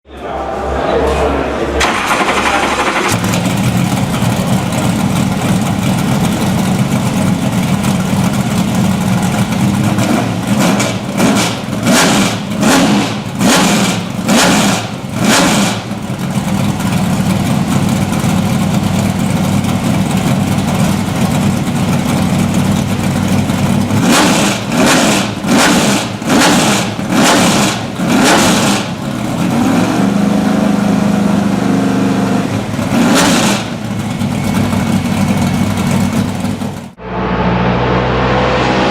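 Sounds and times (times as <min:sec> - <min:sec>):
car engine idling and revving: 0:01.8 - 0:38.9.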